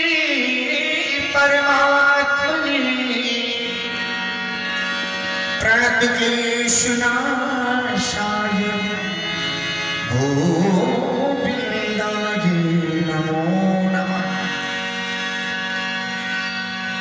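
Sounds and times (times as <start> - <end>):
man singing devotional song: 0.0 - 15.4
sustained instrumental accompaniment: 0.0 - 17.0.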